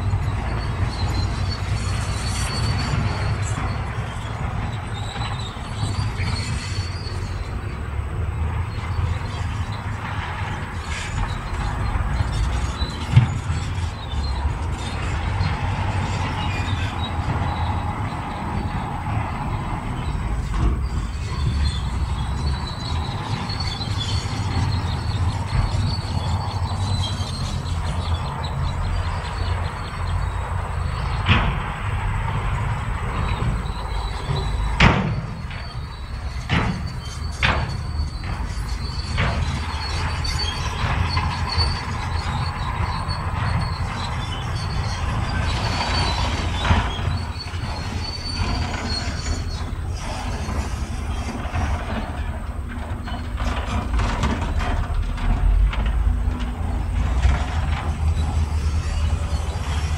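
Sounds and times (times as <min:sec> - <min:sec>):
bulldozer diesel engine running: 0:00.0 - 0:59.9
high squeal of steel tracks: 0:00.0 - 0:59.9.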